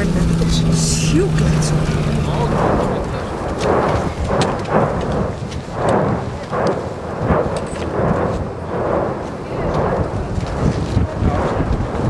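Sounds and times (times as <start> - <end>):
lava fountain roaring rumble: 0.0 - 12.0
sharp crackles of lava spatter: 0.0 - 12.0.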